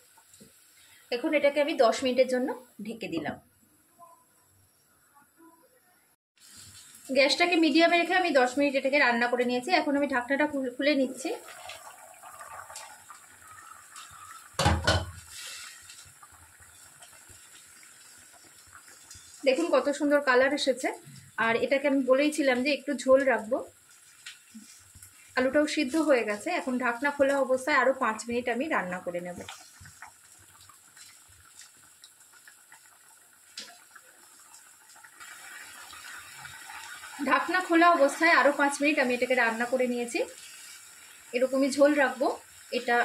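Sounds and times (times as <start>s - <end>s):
curry bubbling: 6.4s - 43.0s.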